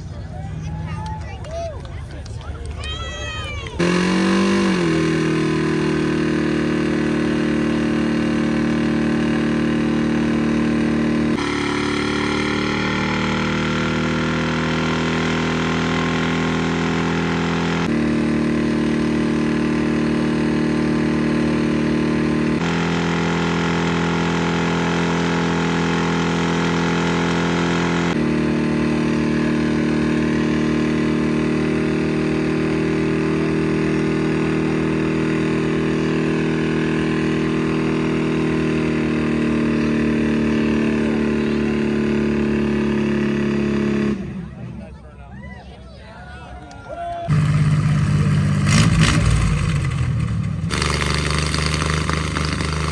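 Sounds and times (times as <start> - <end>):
car engines revving: 0.0 - 45.3, 47.3 - 52.9.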